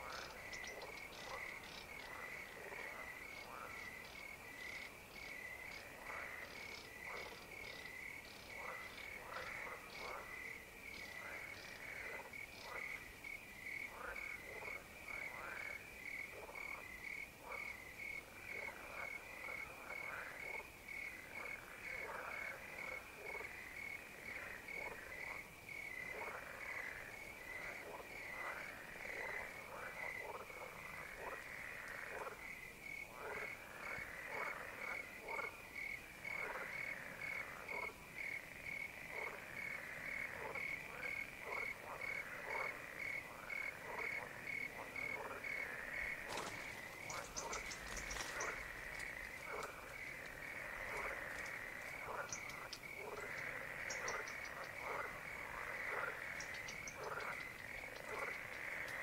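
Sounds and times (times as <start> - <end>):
crickets chirping: 0.0 - 59.0
frogs croaking: 0.0 - 59.0.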